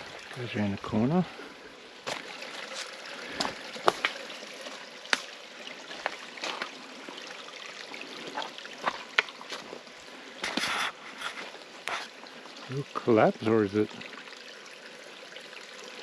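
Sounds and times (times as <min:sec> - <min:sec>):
creek water trickling: 0:00.0 - 0:16.0.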